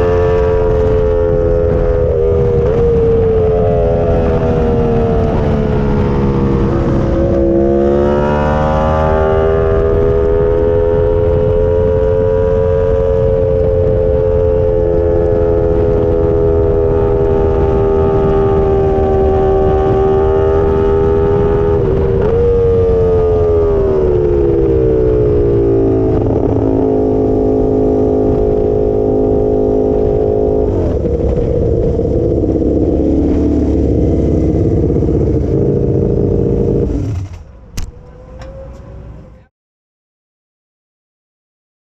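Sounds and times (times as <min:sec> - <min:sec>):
motorcycle engine: 0:00.0 - 0:39.5
wind and road noise: 0:00.0 - 0:39.5.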